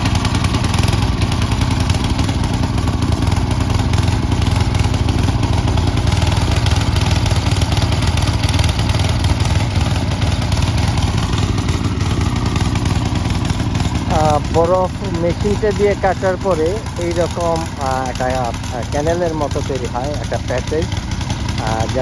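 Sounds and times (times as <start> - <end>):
snow blower engine running: 0.0 - 22.0.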